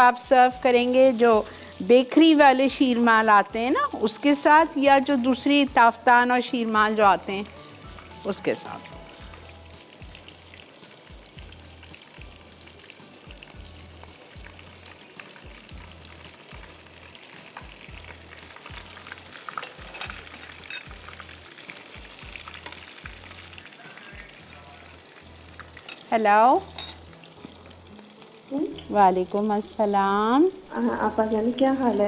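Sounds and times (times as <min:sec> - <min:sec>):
cutlets sizzling in hot oil: 0:00.0 - 0:32.0.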